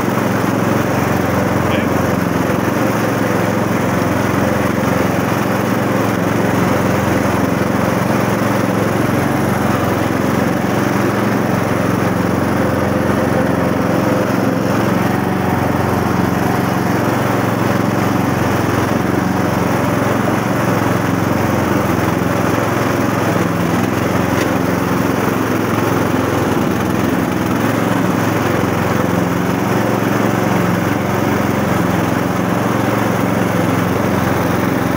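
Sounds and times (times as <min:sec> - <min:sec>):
lawn tractor engine running: 0:00.0 - 0:34.9.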